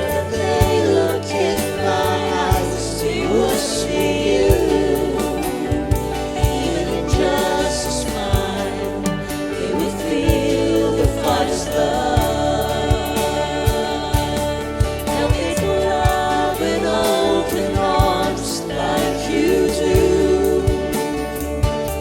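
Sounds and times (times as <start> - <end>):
bass: 0.0 - 22.0
people singing: 0.0 - 22.0.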